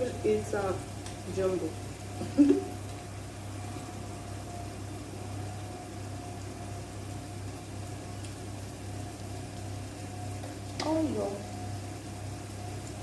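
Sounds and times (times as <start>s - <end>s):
kitchen appliance hum and whine: 0.0s - 13.0s.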